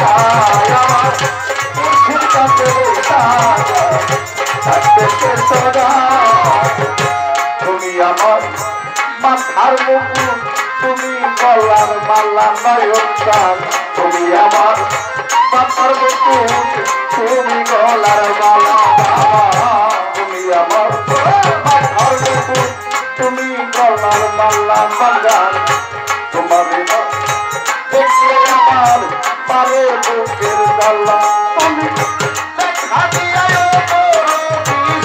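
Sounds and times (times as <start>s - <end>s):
rapid hand drum beats: 0.0s - 35.0s.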